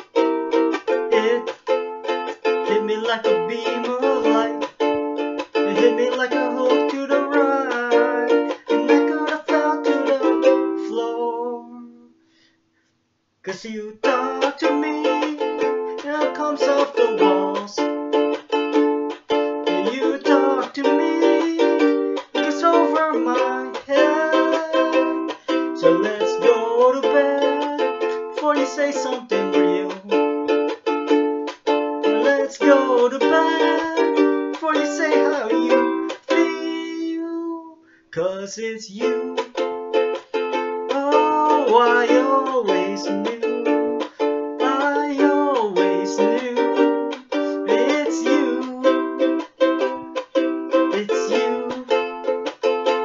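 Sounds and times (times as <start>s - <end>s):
electric ukulele strumming chords: 0.0s - 11.5s, 14.0s - 36.6s, 39.0s - 53.0s.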